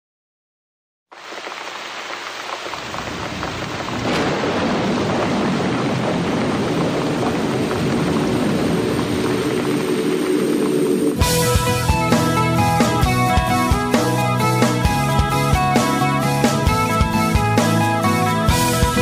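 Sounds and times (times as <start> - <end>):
steady rain falling: 1.1 - 19.0.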